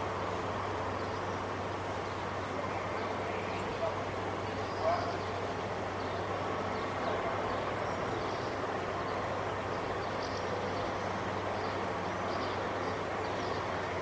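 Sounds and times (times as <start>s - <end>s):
outdoor street noise: 0.0s - 14.0s.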